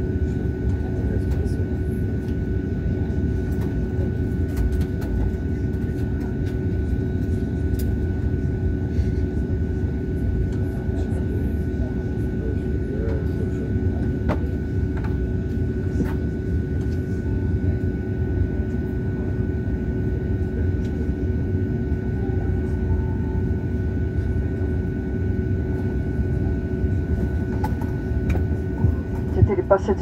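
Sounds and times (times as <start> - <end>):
airliner cabin rumble: 0.0 - 30.0
engine and air conditioning whine: 0.0 - 30.0.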